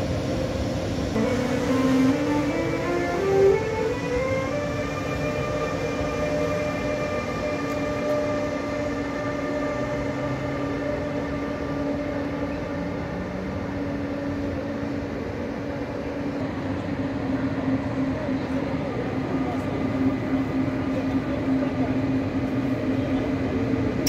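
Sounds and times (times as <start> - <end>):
electric locomotive converter whine: 0.0 - 24.0
wheels rumbling on rails: 0.0 - 24.0.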